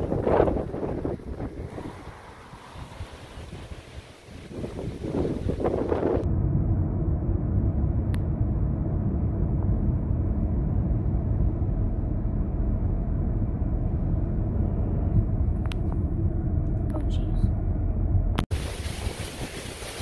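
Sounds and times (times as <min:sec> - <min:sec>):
car road and engine rumble: 0:00.0 - 0:18.8.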